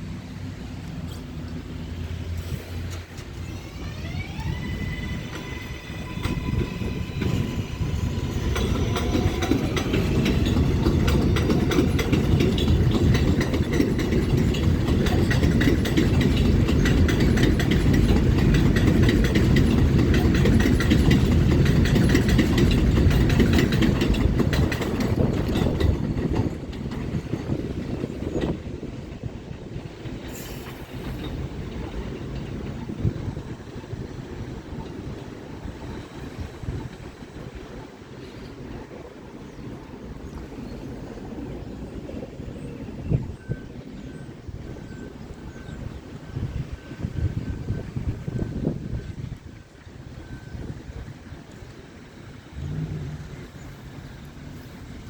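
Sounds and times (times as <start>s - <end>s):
subway motor whine: 0.0s - 55.0s
train wheels rumbling: 0.0s - 55.0s
wheels clicking over rail joints: 0.0s - 55.0s.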